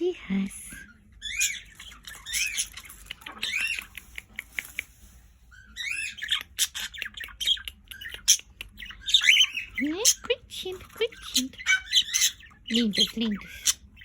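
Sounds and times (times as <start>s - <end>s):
budgerigars chattering: 0.6s - 14.0s.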